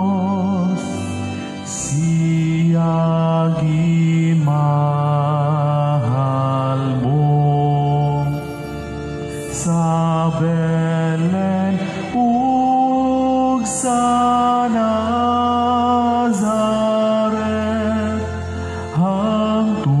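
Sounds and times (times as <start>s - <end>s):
person singing a hymn: 0.0s - 20.0s.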